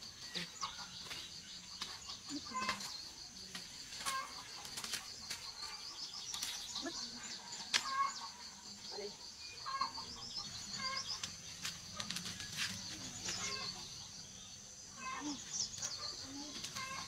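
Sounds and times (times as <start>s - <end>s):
insect buzz: 0.0s - 17.0s
insect chirps: 0.0s - 17.0s
leaves and vines rustling: 0.2s - 8.4s, 10.6s - 14.2s, 15.0s - 17.0s.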